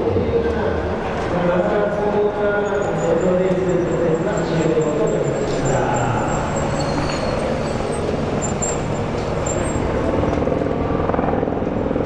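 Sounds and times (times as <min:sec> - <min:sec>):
racing car engine running: 0:00.9 - 0:11.2.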